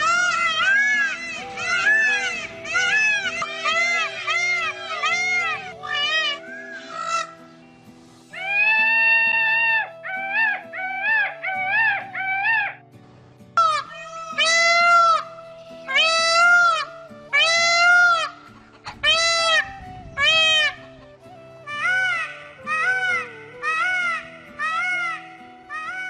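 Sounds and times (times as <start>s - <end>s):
peacock calling: 0.0s - 12.8s, 13.6s - 26.0s.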